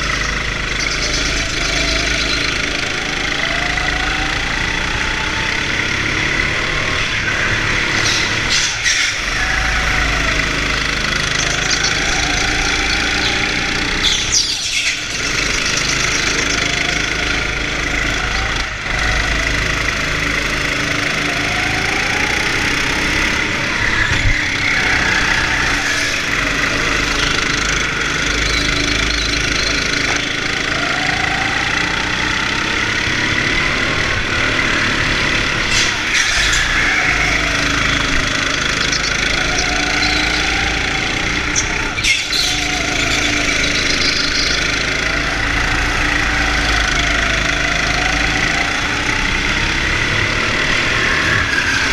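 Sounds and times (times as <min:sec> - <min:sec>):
go-kart motor accelerating: 0:00.0 - 0:51.9.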